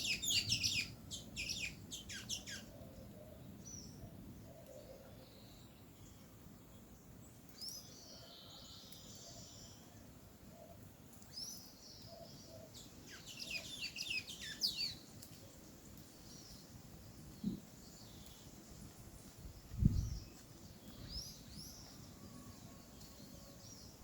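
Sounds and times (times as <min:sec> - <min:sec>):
small birds chirping: 0:00.0 - 0:04.0, 0:04.6 - 0:24.0.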